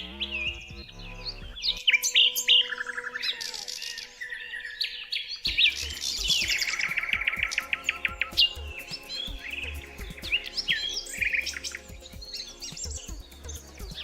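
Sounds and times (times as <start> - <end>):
bird trilling: 0.0 - 14.0
birds chirping and singing: 0.0 - 14.0.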